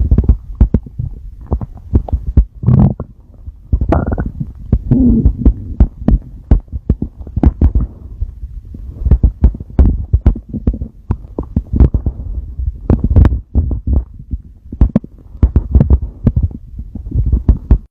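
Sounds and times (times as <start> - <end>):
stomach growling: 0.0 - 17.9.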